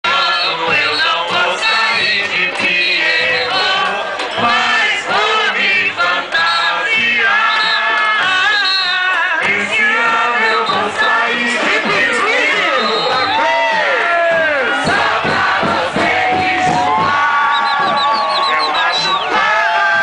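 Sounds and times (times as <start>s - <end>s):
group singing over loudspeakers: 0.0s - 20.0s.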